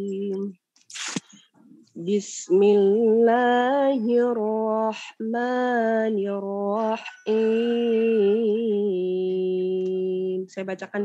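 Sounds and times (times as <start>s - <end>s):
woman chanting recitation: 2.0s - 11.0s.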